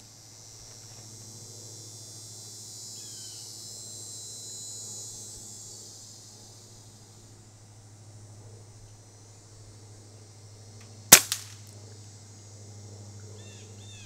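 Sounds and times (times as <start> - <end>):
high-pitched insect chorus: 0.0 - 14.0
steady low hum: 0.0 - 14.0.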